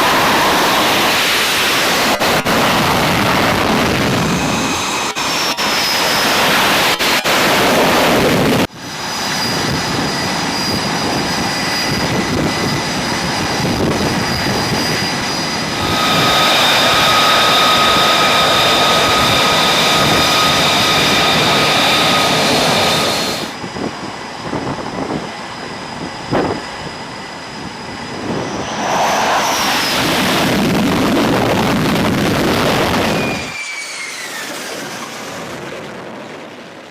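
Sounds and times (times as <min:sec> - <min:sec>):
high engine whine: 0:00.0 - 0:36.9
jet engines roaring: 0:00.0 - 0:36.9.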